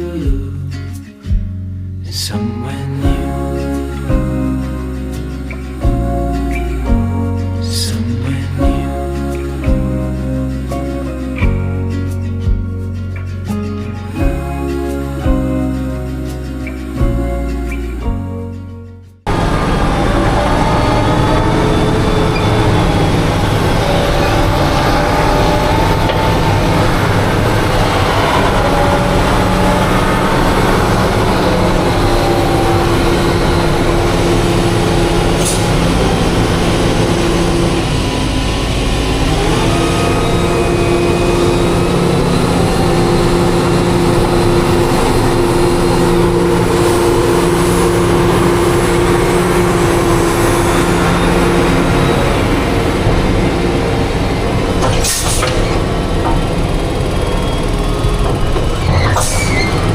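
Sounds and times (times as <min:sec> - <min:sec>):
heavy diesel engine rumbling: 0:03.0 - 0:59.9.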